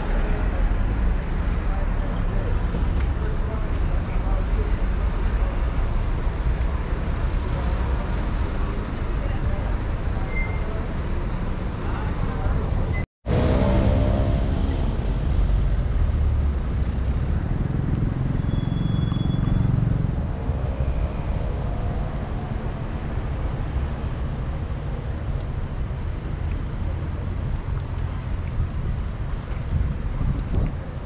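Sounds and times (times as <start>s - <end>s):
steady outdoor rumble: 0.0s - 31.0s.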